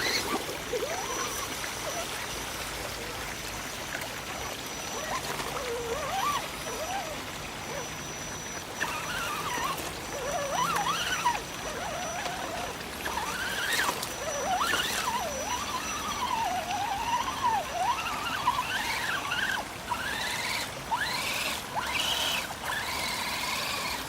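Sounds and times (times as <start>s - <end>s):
electric motor whining: 0.0s - 3.4s, 4.0s - 24.0s.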